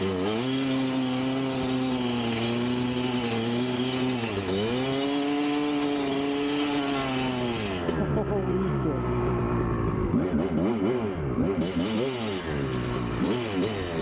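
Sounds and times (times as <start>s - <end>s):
two-stroke engine revving high: 0.0s - 14.0s.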